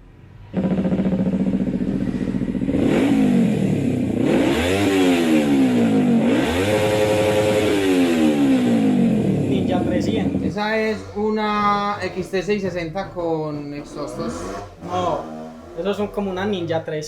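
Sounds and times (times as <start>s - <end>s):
motorcycle engine idling and revving: 0.0s - 16.6s.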